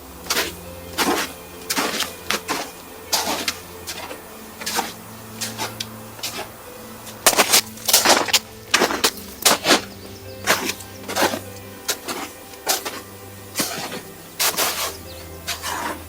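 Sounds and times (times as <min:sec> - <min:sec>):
footsteps crunching in snow: 0:00.0 - 0:16.0
steady low hum: 0:00.0 - 0:16.0.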